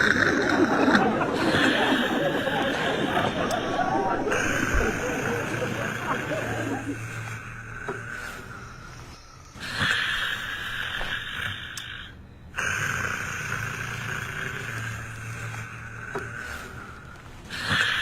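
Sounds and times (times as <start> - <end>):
person snoring: 0.0 - 18.0.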